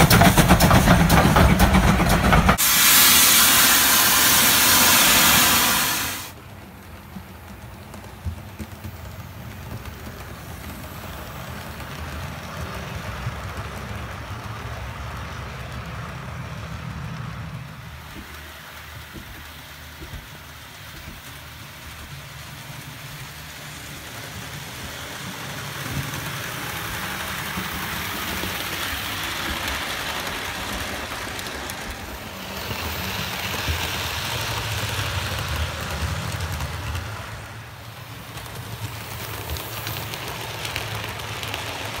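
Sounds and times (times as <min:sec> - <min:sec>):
model train wheels hissing: 0:00.0 - 0:11.9, 0:18.0 - 0:42.0.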